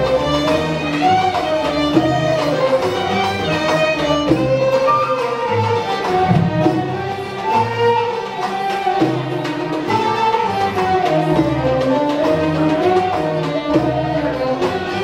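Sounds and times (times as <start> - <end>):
arab music ensemble: 0.0 - 15.0.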